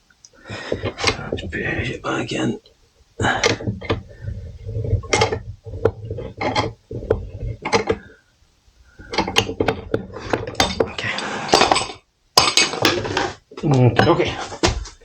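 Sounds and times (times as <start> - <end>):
scraping and knocking: 0.4 - 2.4, 3.2 - 8.2, 8.9 - 15.0.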